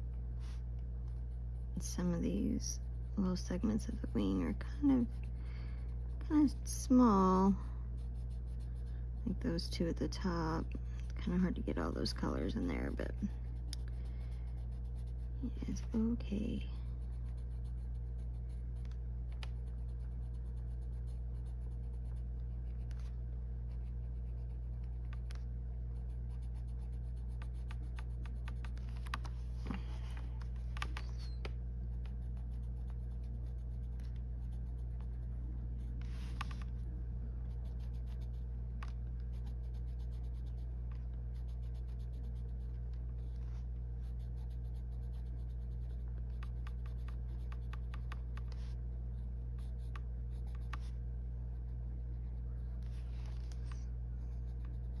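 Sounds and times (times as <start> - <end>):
low hum: 0.0 - 55.0
coloured pencil scratching on paper: 0.4 - 36.8, 37.4 - 48.8, 49.5 - 55.0.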